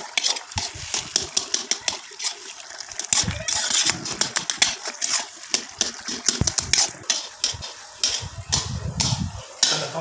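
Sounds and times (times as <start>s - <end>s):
metal spatula scraping a pan: 0.0s - 10.0s.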